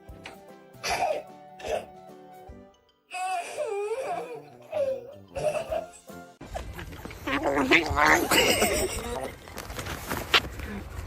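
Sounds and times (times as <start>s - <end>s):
background music: 0.0s - 9.6s.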